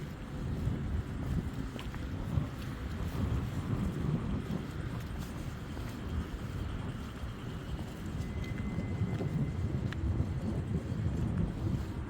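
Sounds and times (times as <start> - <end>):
faint traffic: 0.0 - 12.0
wind buffeting microphone: 0.0 - 12.0.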